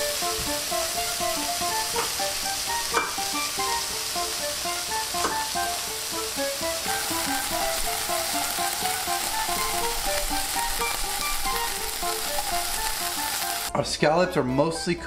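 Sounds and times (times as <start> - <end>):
shrimp sizzling in a frying pan: 0.0 - 13.7
light picked background music: 0.0 - 15.0.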